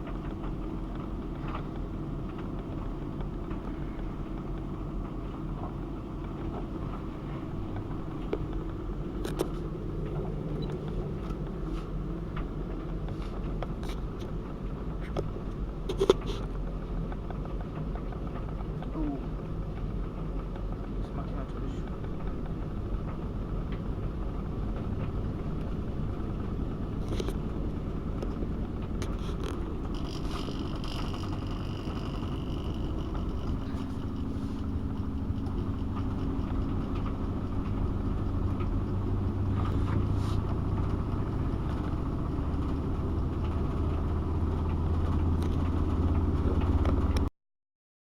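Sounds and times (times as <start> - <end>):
washing machine humming: 0.0 - 15.8, 17.0 - 47.3.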